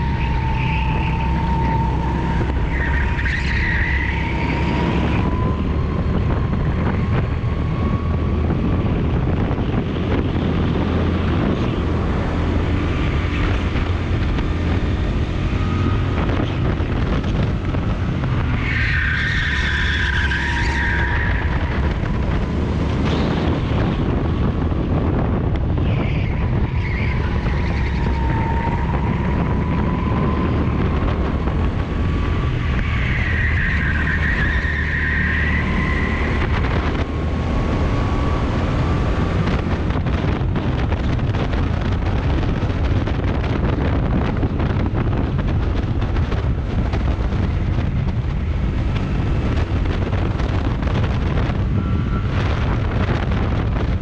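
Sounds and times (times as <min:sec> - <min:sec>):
wind noise: 0:00.0 - 0:54.0.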